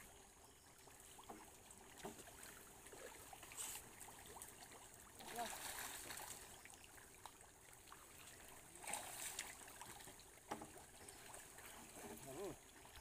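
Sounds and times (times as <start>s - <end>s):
water trickling and lapping: 0.0s - 13.0s
splashing: 1.0s - 13.0s.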